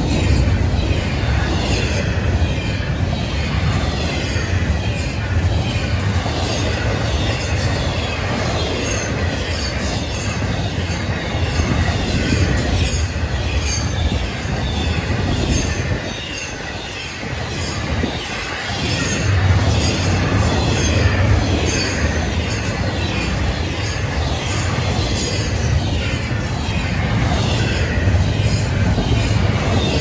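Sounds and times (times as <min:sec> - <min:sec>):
freight train wheels rumbling on rail: 0:00.0 - 0:30.0.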